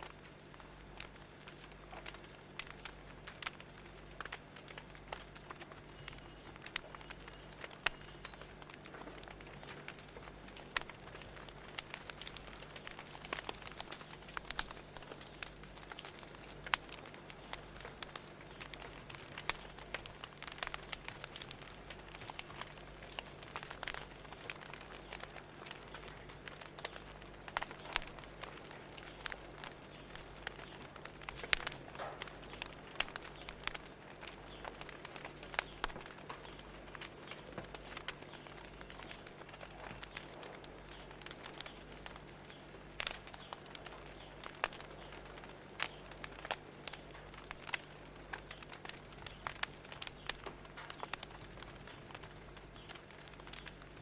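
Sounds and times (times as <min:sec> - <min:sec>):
faint low hum: 0:00.0 - 0:54.0
fire crackling: 0:00.0 - 0:54.0
soft steady hiss: 0:00.0 - 0:54.0.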